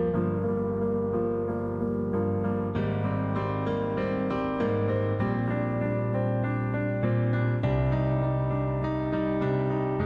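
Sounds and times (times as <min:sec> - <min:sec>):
piano chords over bass notes: 0:00.0 - 0:10.0.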